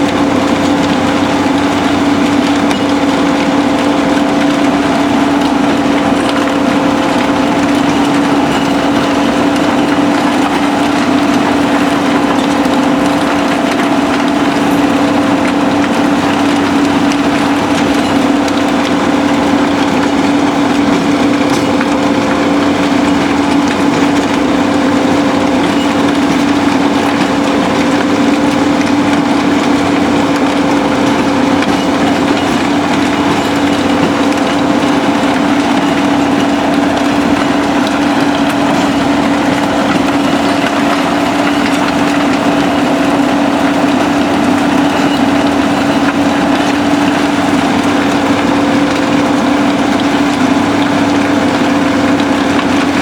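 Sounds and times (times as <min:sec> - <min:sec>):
heavy diesel machinery: 0:00.0 - 0:53.0
impact crusher crushing concrete: 0:00.0 - 0:53.0.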